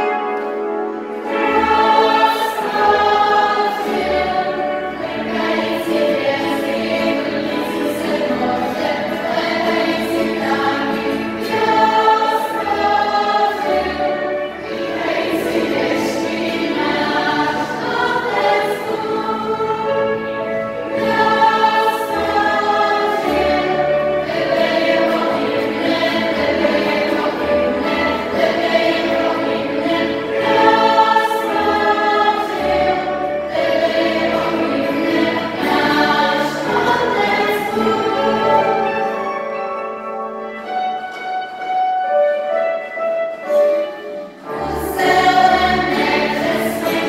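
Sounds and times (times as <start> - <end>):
girls choir singing: 0.0 - 41.1, 43.4 - 47.0
guitars: 0.0 - 47.0
violin: 0.0 - 47.0.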